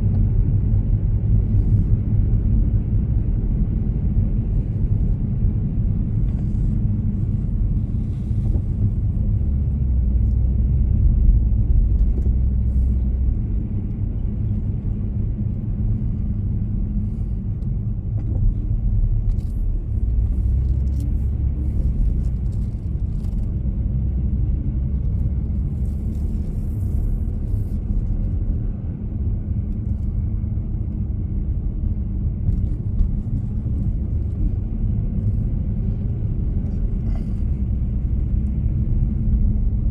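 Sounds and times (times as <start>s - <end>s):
moving vehicle rumble: 0.0s - 39.9s.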